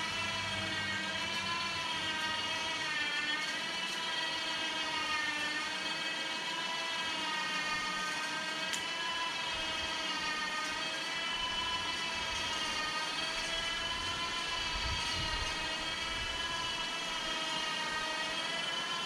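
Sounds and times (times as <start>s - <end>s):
motor droning whine: 0.0s - 19.0s.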